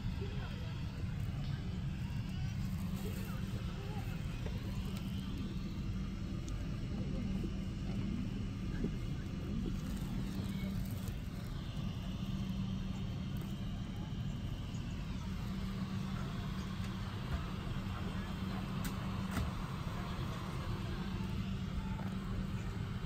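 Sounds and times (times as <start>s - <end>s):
airliner cabin hum: 0.0s - 23.0s.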